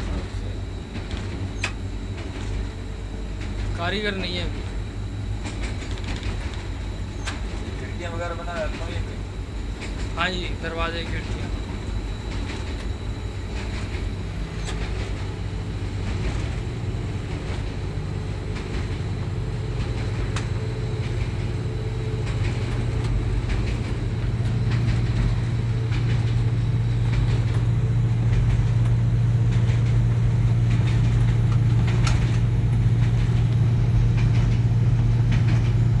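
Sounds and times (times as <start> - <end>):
locomotive engine drone: 0.0 - 36.0
rail clicks and rattles: 0.0 - 36.0.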